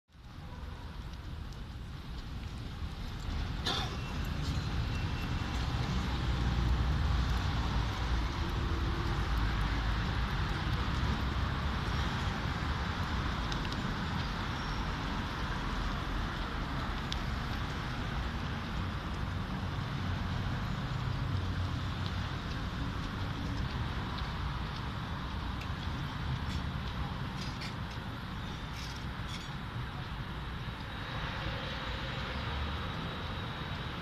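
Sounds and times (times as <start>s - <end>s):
traffic rumble: 0.1s - 34.0s.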